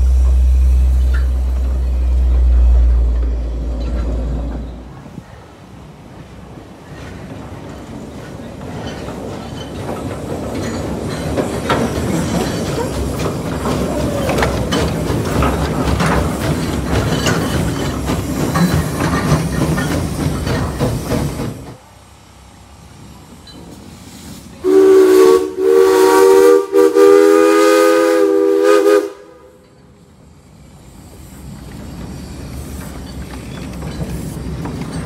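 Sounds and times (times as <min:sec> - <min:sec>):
train wheels clattering on rails: 0:00.0 - 0:05.4, 0:06.1 - 0:21.9, 0:23.2 - 0:35.0.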